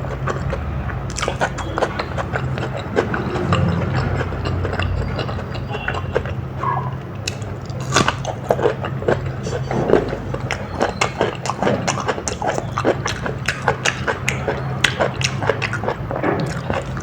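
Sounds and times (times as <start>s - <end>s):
biting and chewing: 0.0s - 17.0s
steady low hum: 0.0s - 17.0s
wet mouth clicks: 0.0s - 17.0s.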